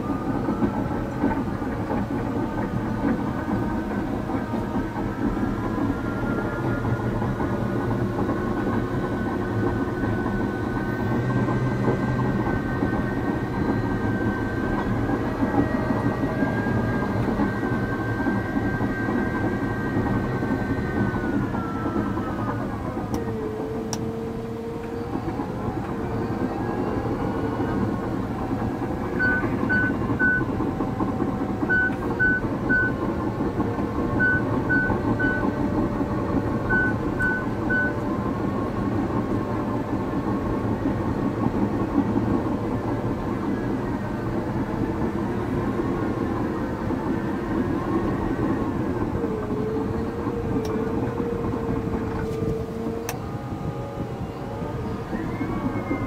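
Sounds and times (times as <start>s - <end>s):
bulldozer diesel engine running: 0.0s - 56.0s
machine whine: 0.0s - 56.0s.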